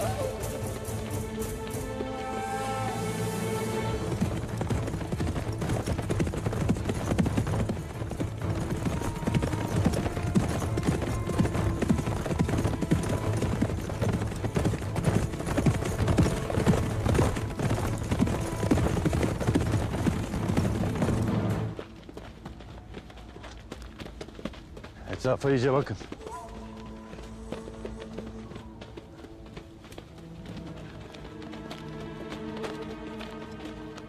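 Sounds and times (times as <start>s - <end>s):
background music: 0.0s - 34.0s
horse hoofbeats on dirt: 3.5s - 34.0s.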